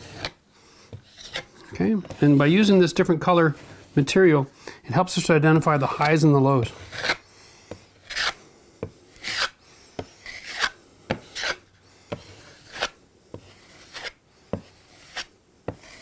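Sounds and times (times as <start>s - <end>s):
putty knife scraping wall: 0.0s - 2.8s, 5.9s - 16.0s.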